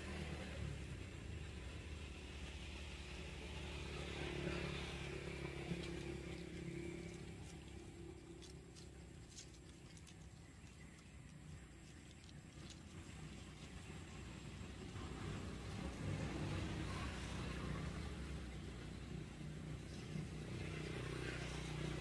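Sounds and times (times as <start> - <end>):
vehicle engine passing: 0.0 - 22.0.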